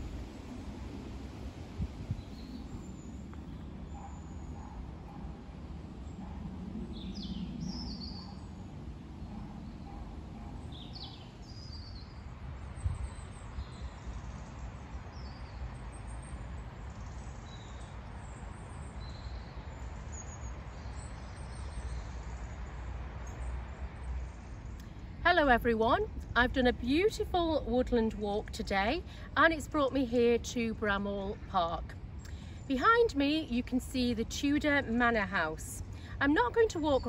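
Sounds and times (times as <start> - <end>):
birds chirping: 2.0 - 37.0.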